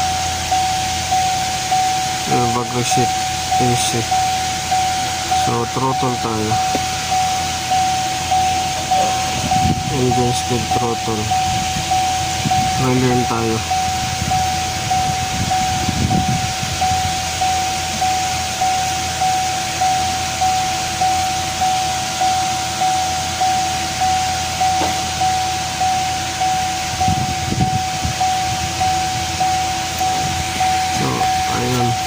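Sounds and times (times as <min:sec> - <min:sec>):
electronic warning chime dinging: 0:00.0 - 0:32.0.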